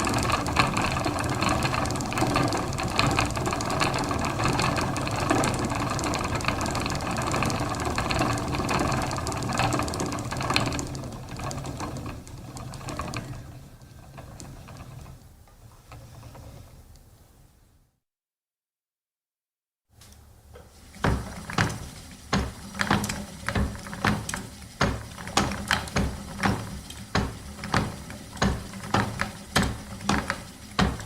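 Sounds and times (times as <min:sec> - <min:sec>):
wooden spinning wheel clattering: 0:00.0 - 0:16.9, 0:20.7 - 0:31.0.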